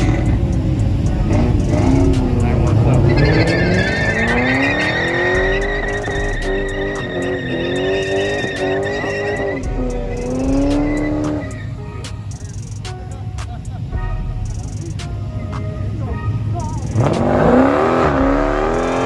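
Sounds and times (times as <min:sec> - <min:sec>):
car engine revving: 0:00.0 - 0:19.0
tires squealing: 0:00.0 - 0:19.0.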